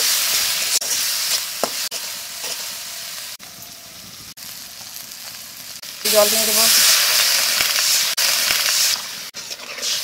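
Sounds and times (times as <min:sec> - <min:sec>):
spices sizzling in oil: 0:00.0 - 0:10.0.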